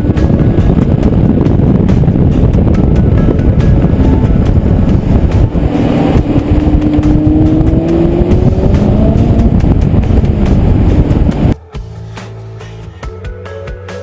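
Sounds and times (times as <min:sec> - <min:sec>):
car engine accelerating: 0:00.0 - 0:11.6
low exhaust rumble: 0:00.0 - 0:11.6.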